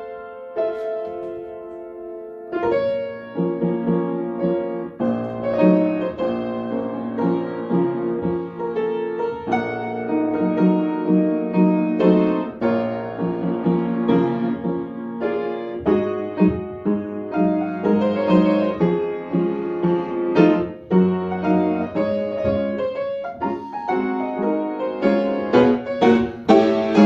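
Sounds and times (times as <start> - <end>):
upright piano solo piece: 0.0 - 27.0.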